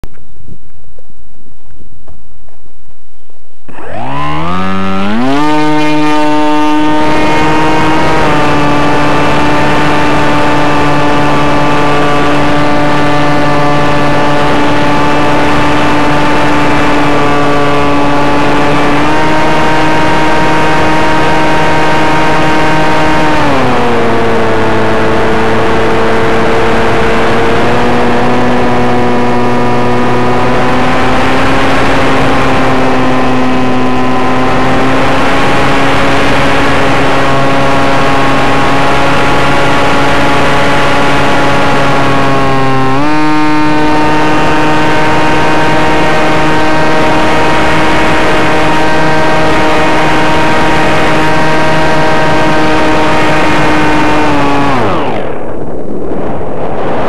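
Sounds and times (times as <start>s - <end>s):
electric motor whining: 3.7s - 55.6s.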